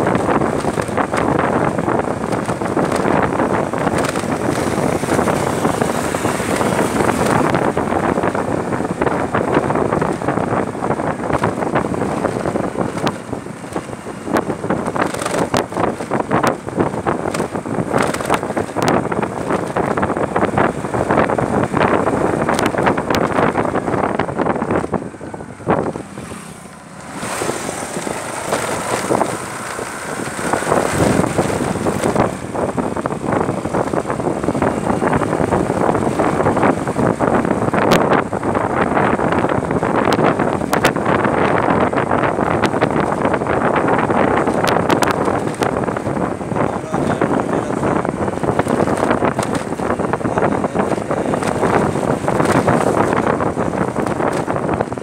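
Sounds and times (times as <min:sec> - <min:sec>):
motorbike engine: 0:00.0 - 0:55.0
wind buffeting microphone: 0:00.0 - 0:55.0.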